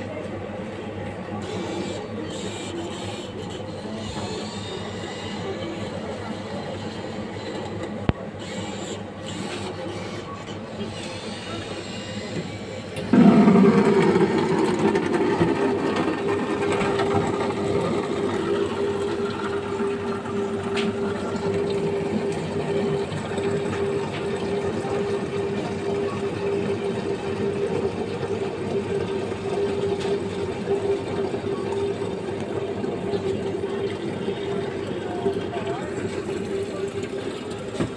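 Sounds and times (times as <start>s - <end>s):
pump humming: 1.0s - 37.9s.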